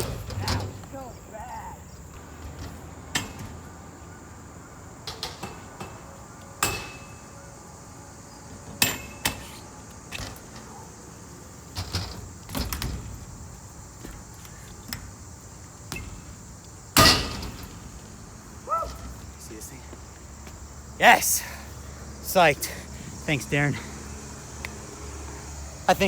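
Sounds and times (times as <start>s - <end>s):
bike tyres striking ramps: 0.0s - 21.6s.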